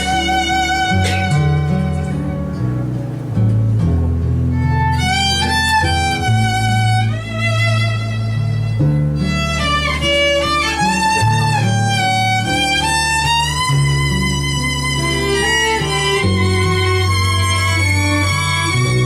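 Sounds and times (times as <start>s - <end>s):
guitar accompaniment: 0.0s - 19.0s
low bass notes: 0.0s - 19.0s
sliding lead melody: 0.0s - 19.0s.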